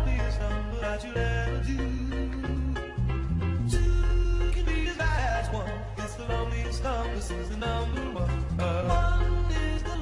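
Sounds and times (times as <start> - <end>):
song with sung melody and bass: 0.0 - 10.0.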